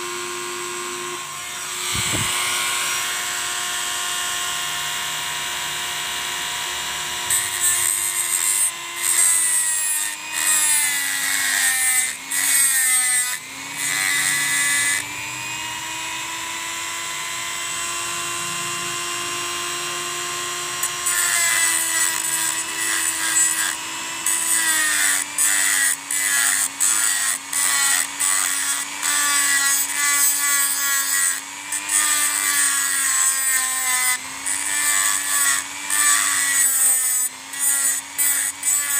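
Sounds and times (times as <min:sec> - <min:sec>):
cutting disc grinding steel: 0:00.0 - 0:38.9
rotary tool whining: 0:00.0 - 0:38.9.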